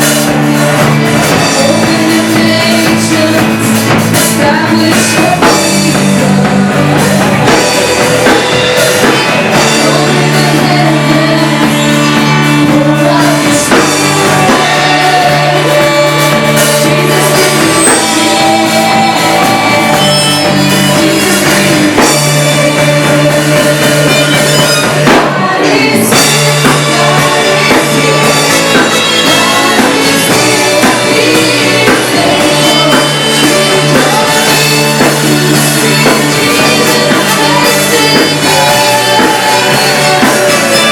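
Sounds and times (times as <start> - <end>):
drum kit: 0.0 - 40.9
person singing: 0.0 - 40.9
rock band playing: 0.0 - 40.9.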